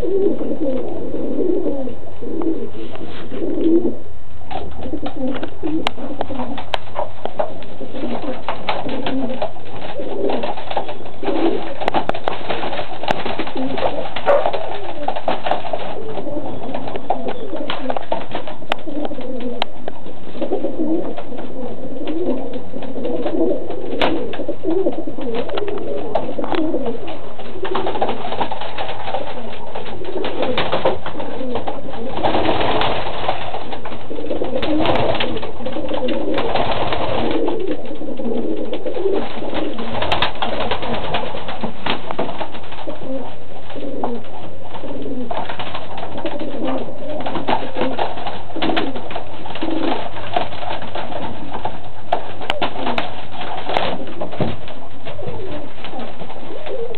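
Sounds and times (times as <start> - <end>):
pigeons cooing: 0.0 - 56.9.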